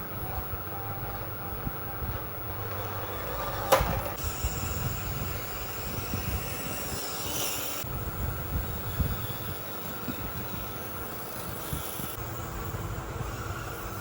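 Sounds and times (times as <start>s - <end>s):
higher motor whine: 0.0s - 14.0s
model vehicle motors whining: 0.0s - 14.0s.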